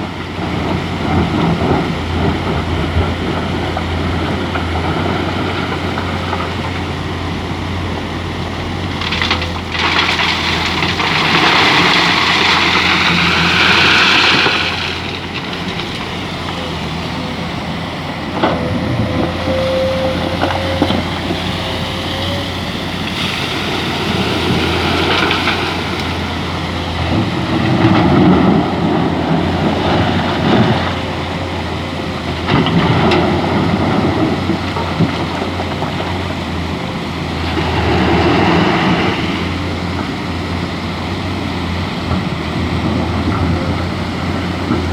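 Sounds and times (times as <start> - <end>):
excavator diesel engine: 0.0 - 44.9
hydraulic whine: 0.0 - 44.9.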